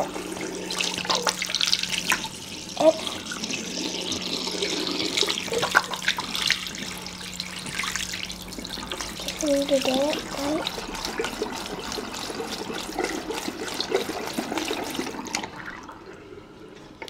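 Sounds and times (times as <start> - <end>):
water splashing on balloon: 0.0 - 15.9
tap water running into sink: 0.0 - 16.2.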